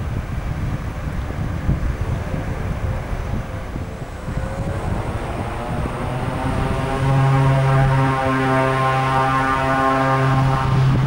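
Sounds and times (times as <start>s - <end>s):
turboprop propeller drone: 0.0s - 11.0s
wind rumble on microphone: 0.0s - 11.0s.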